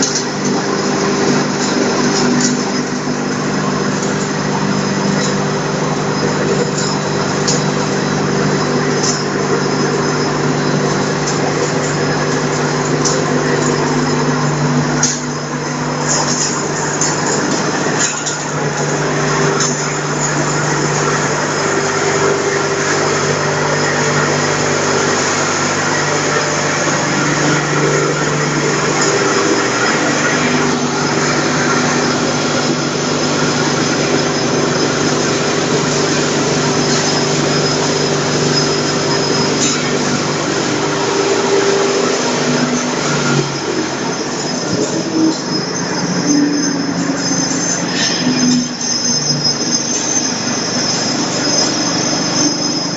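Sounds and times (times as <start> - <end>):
spice mill motor humming: 0.0 - 52.9.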